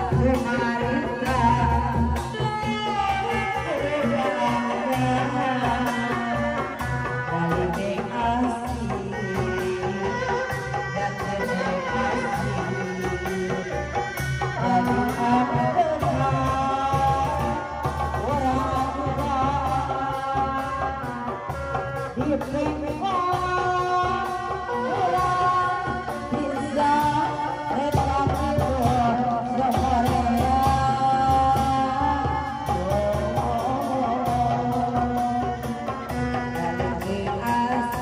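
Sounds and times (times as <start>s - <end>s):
drums: 0.0s - 38.0s
person singing wavering melody: 0.0s - 38.0s.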